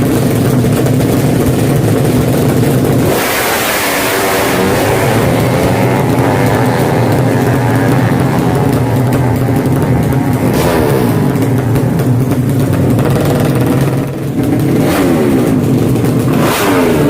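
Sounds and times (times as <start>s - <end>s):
motorcycle accelerating hard: 0.0s - 17.0s
motorcycle engines running: 0.0s - 17.0s.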